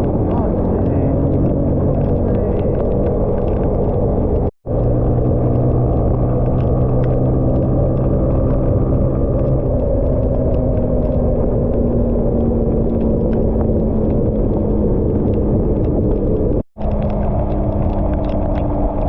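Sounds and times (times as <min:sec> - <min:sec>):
motorbike engine hum: 0:00.0 - 0:19.0
wind and rain on microphone: 0:00.0 - 0:19.0.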